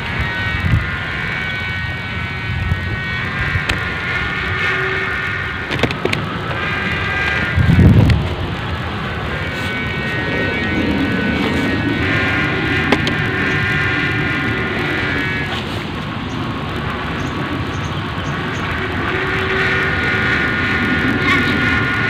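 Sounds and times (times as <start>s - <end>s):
high-pitched droning hum: 0.0s - 22.0s
wind buffeting microphone: 0.0s - 22.0s.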